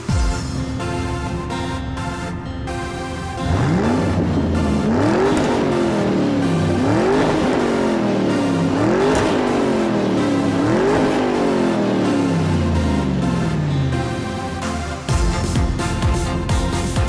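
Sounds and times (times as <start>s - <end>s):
electronic music with sliding synth: 0.0s - 17.0s.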